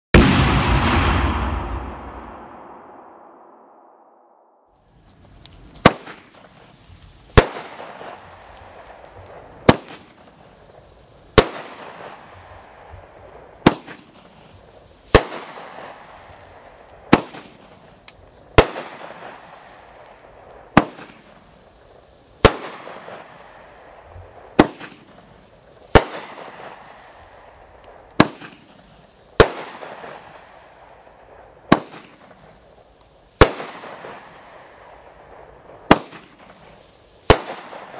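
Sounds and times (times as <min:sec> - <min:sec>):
fireworks bangs: 0:00.1 - 0:04.2, 0:05.5 - 0:32.6, 0:33.4 - 0:37.9.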